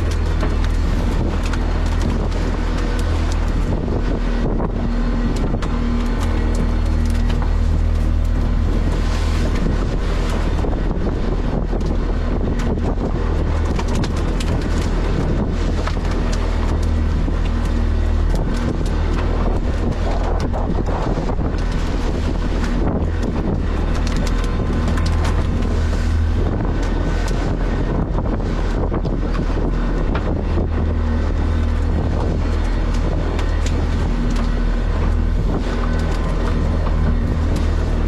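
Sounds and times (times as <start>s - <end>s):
boat engine running: 0.0s - 38.0s
wind noise on microphone: 0.0s - 38.0s.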